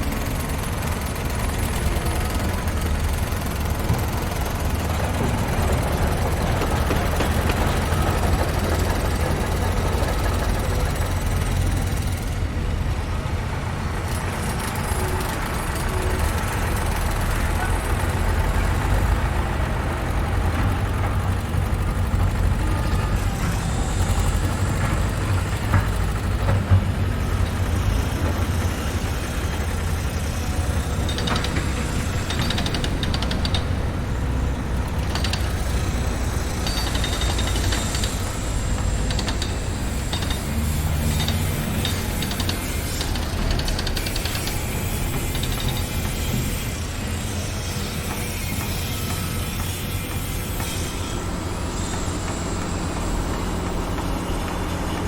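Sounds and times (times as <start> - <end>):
heavy engine rumbling: 0.0 - 55.0.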